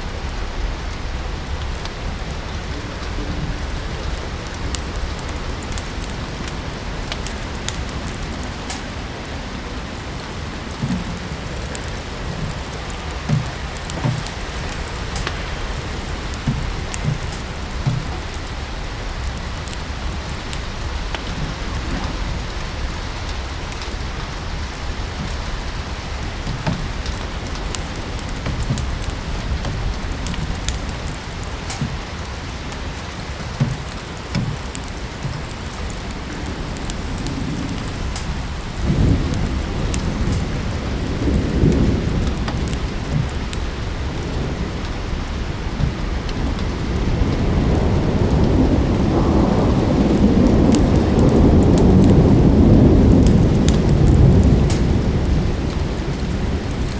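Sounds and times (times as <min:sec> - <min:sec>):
low thunder roll: 0:00.0 - 0:56.9
steady rain: 0:00.0 - 0:56.9
wood fire crackling: 0:00.0 - 0:56.9.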